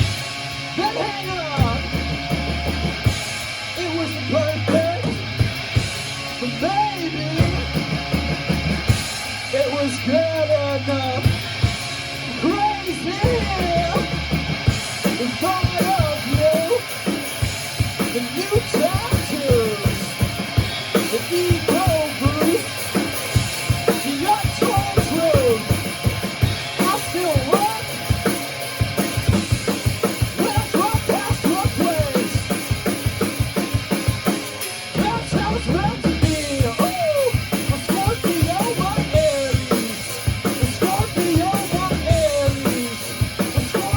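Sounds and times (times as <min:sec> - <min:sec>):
drum kit beat: 0:00.0 - 0:43.9.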